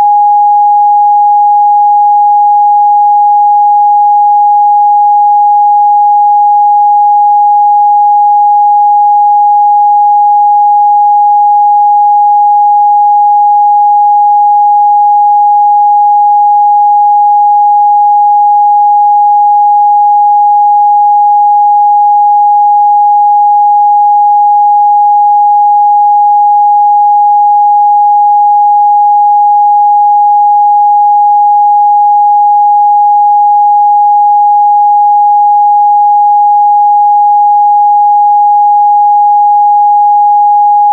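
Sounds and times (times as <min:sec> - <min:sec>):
sine test tone: 0:00.0 - 0:40.9.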